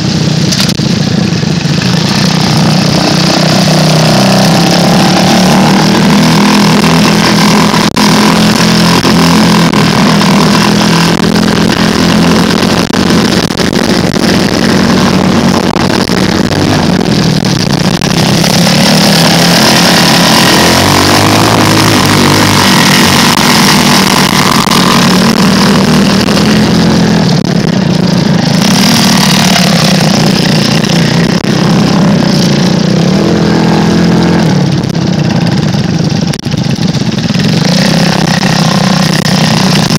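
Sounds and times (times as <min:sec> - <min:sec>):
buggy engine running: 0:00.0 - 0:39.9.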